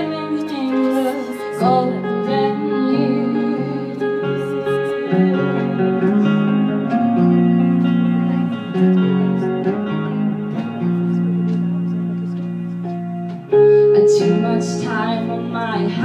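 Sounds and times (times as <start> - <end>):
electric guitar rock instrumental: 0.0 - 16.0.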